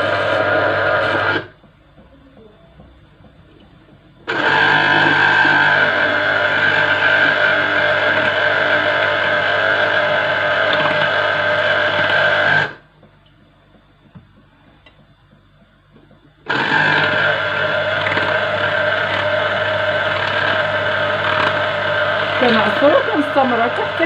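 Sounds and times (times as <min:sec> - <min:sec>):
citrus juicer motor humming: 0:00.0 - 0:24.0.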